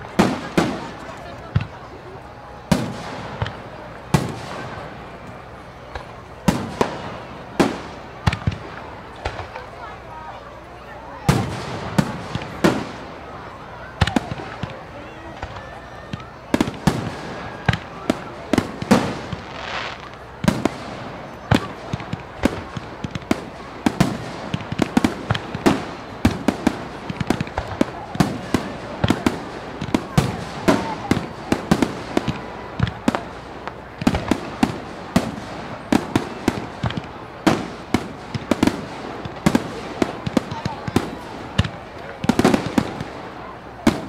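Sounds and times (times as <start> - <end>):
small firework pops: 0.0 - 10.6, 11.2 - 44.0
fireworks bangs: 0.0 - 44.0.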